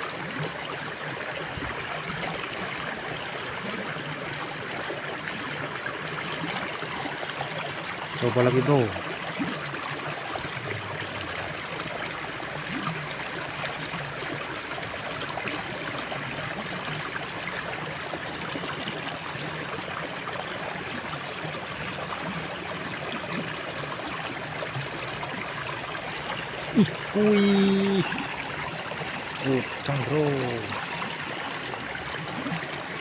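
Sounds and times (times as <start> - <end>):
water trickling in a ditch: 0.0 - 33.0.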